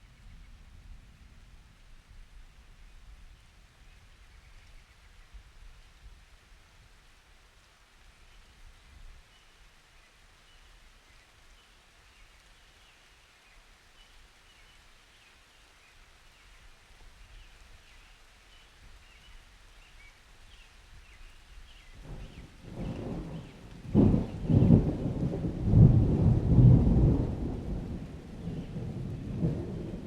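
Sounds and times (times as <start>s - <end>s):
faint steady rain: 0.0s - 30.0s.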